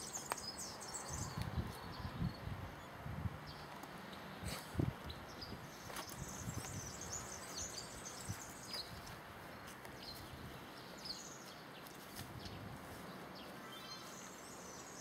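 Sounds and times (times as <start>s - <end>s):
outdoor background hiss: 0.0s - 15.0s
small birds chirping: 0.0s - 15.0s.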